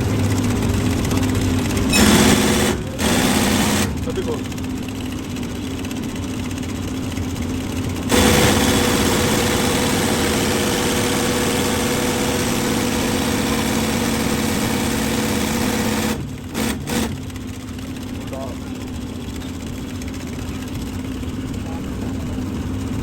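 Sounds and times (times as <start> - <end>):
loud steady machine sound: 0.0 - 23.0
steady mechanical hum: 0.0 - 23.0.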